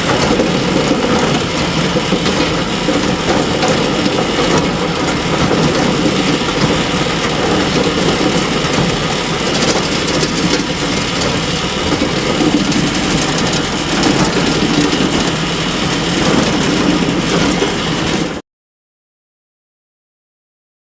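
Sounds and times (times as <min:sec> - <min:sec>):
bale elevator clattering and humming: 0:00.0 - 0:18.4.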